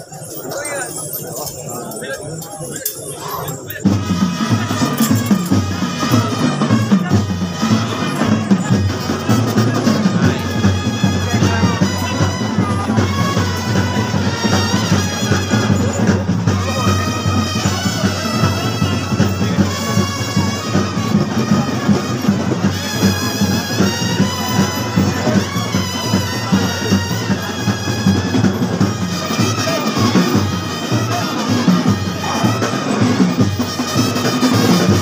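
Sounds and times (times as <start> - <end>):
wind instruments: 0.0 - 35.0
steady drumming: 3.7 - 35.0.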